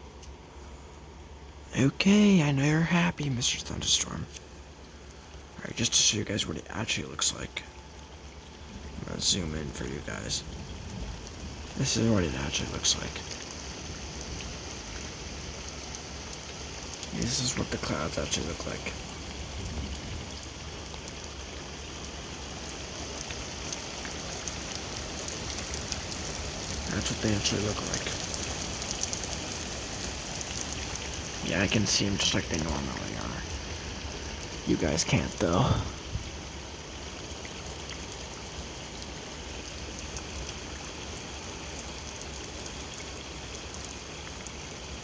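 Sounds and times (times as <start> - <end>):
raindrops ticking on a surface: 0.0 - 45.0
steady rain falling: 0.0 - 45.0.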